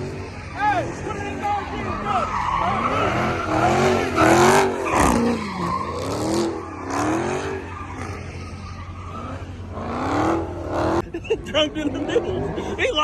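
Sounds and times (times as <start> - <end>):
tyres squealing in burnout: 0.0 - 11.0
car engine revving: 0.0 - 13.0.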